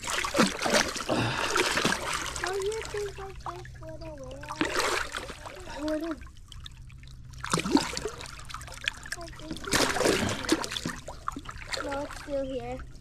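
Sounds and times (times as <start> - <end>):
low hum: 0.0 - 13.0
water splashing: 0.0 - 13.0.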